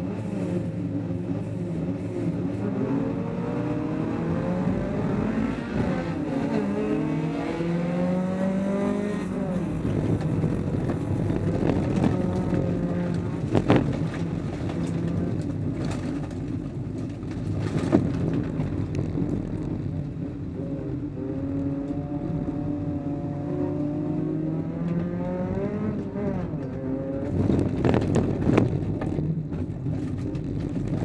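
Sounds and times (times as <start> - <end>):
car engine revving: 0.0 - 31.0
tyres on dirt track: 0.0 - 31.0.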